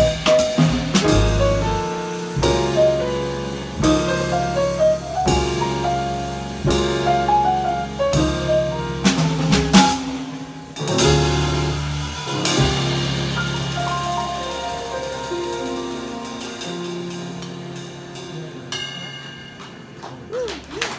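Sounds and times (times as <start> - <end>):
drum fill: 0.0 - 17.4
walking double bass: 0.0 - 18.7
drum kit and ride cymbal: 0.0 - 20.3
piano: 0.0 - 20.9.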